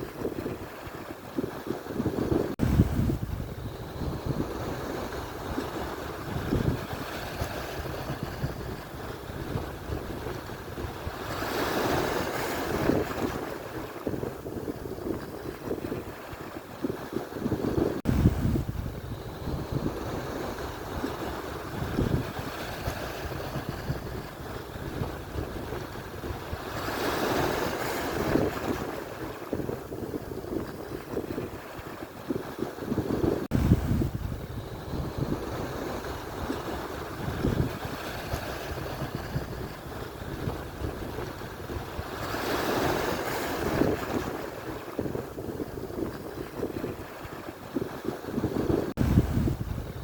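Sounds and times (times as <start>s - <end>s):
surf washing on shore: 0.0s - 50.0s
wind buffeting microphone: 0.0s - 50.0s.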